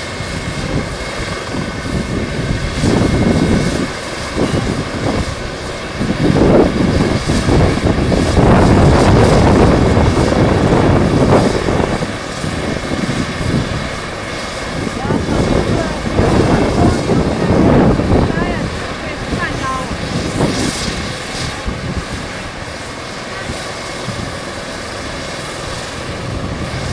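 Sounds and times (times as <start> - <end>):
helicopter rotor turning: 0.0 - 26.9
helicopter turbines whining: 0.0 - 26.9.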